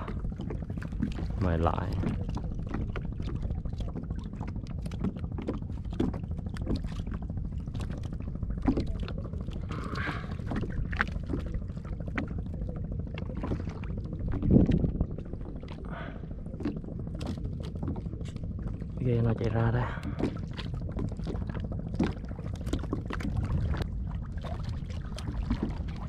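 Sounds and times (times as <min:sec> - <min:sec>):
water lapping against kayak hull: 0:00.0 - 0:26.0
wind rumbling on microphone: 0:00.0 - 0:26.0.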